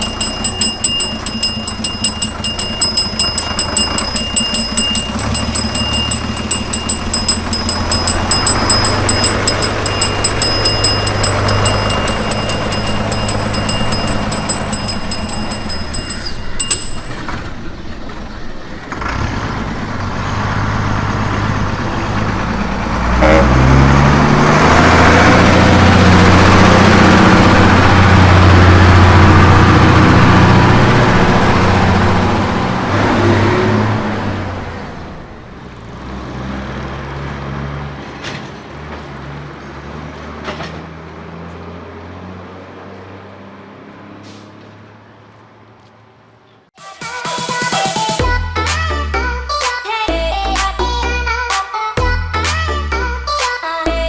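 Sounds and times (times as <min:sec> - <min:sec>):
bus engine: 0:00.0 - 0:46.8
road noise: 0:00.0 - 0:46.8.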